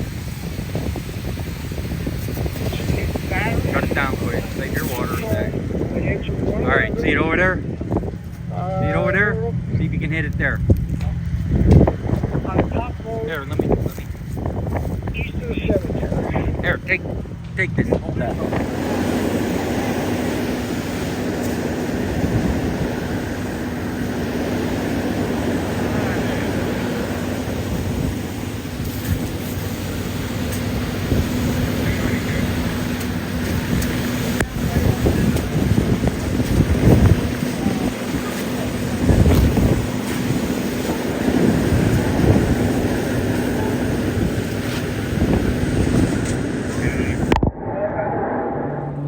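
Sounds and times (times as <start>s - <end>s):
engine drone: 0.0s - 49.0s
rushing noise: 0.0s - 49.0s
wind buffeting microphone: 0.0s - 49.0s.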